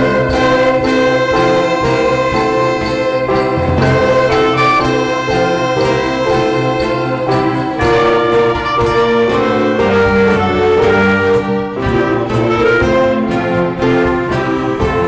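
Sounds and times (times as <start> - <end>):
instrumental ensemble music: 0.0 - 15.0
light percussion strokes: 0.0 - 15.0.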